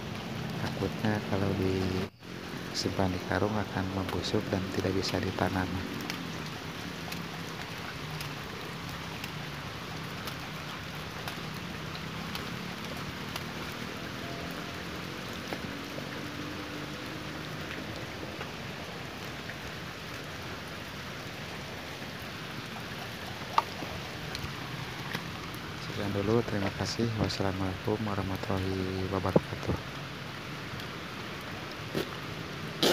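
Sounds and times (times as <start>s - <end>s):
rain on wet concrete: 0.0s - 32.9s.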